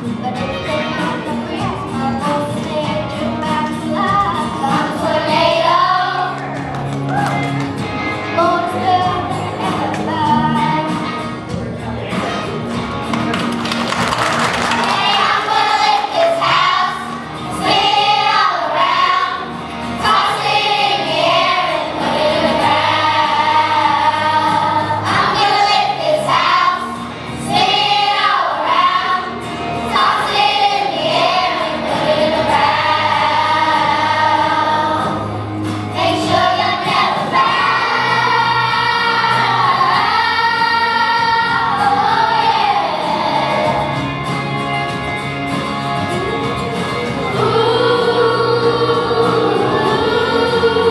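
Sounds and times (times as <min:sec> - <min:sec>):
children's choir singing: 0:00.0 - 0:06.6, 0:08.2 - 0:11.0, 0:14.4 - 0:44.4, 0:46.6 - 0:50.9
instrumental accompaniment: 0:00.0 - 0:50.9.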